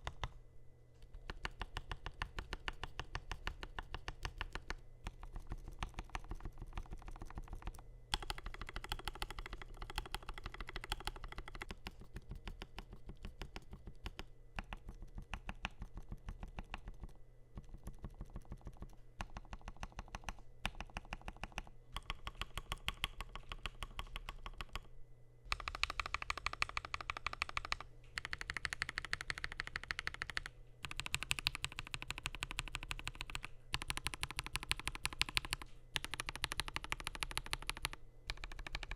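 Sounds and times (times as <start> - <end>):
mechanical keyboard typing: 0.0 - 0.4, 1.1 - 24.9, 25.5 - 38.9.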